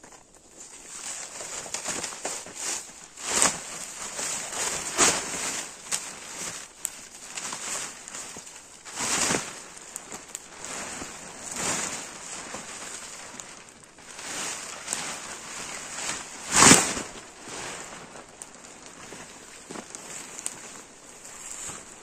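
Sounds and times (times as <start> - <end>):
tarp rustling and swishing: 0.0 - 22.0.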